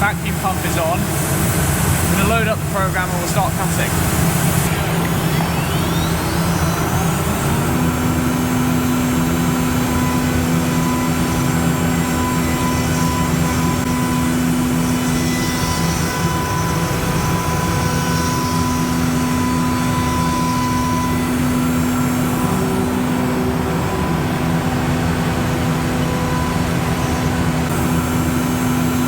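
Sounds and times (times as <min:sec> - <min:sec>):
dust extractor roar: 0:00.0 - 0:29.0
router spindle whine: 0:00.0 - 0:29.0.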